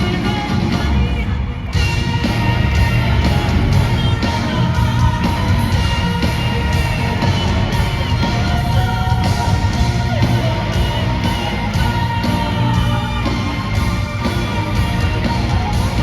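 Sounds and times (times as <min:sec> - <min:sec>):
metal band and orchestra playing: 0:00.0 - 0:16.0.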